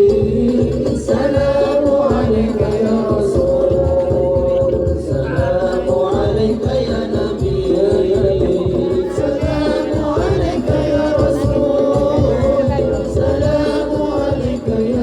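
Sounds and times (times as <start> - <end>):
low percussion beat: 0.0 - 15.0
voices singing held notes: 0.0 - 15.0.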